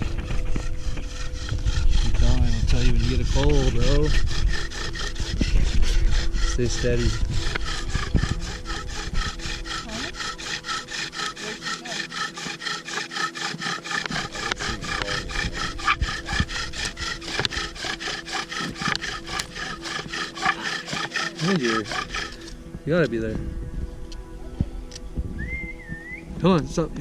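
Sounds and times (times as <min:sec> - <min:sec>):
bow drill grinding in wood: 0:00.0 - 0:23.4.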